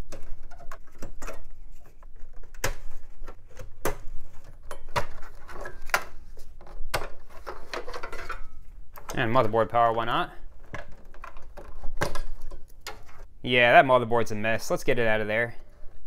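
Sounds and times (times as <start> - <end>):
cable rustling: 0.0 - 13.4.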